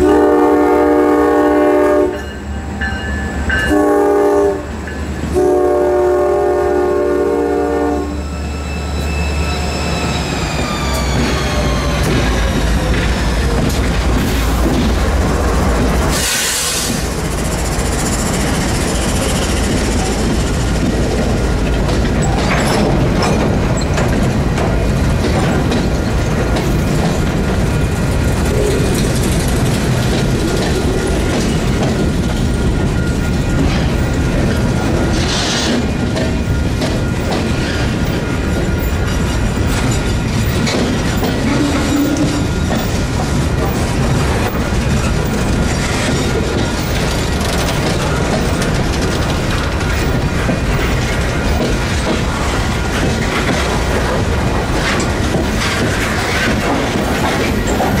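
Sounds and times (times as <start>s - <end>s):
train wheels rumbling on rail: 0.0s - 58.0s
wheels clicking over rail joints: 11.0s - 58.0s.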